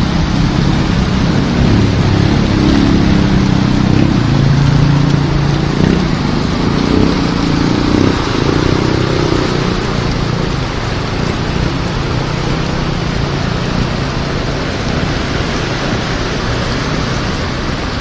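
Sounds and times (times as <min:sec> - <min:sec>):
heavy rain falling: 0:00.0 - 0:18.0
vehicle engine running: 0:00.0 - 0:18.0.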